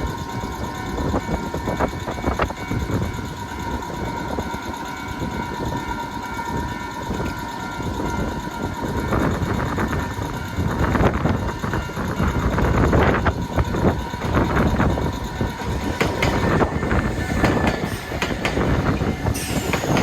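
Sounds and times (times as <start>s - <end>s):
crossing warning bell ringing: 0.0s - 20.0s
train rumbling over crossing: 0.0s - 20.0s.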